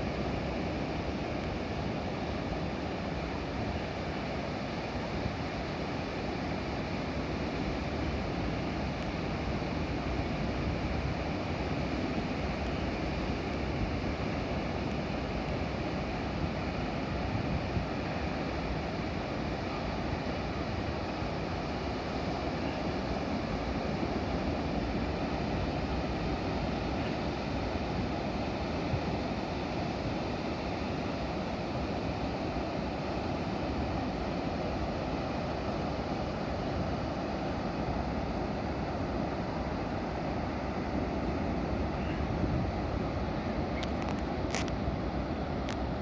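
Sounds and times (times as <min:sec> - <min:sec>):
surf rumbling: 0:00.0 - 0:46.0
wind blowing across microphone: 0:00.0 - 0:46.0.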